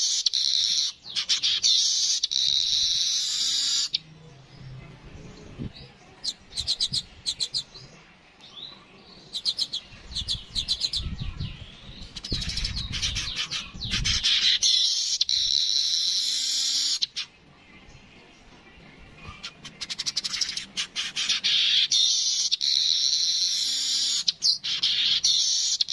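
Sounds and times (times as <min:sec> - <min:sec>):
bird singing rattling chatters: 0:00.0 - 0:08.0, 0:08.6 - 0:17.4, 0:19.0 - 0:25.9.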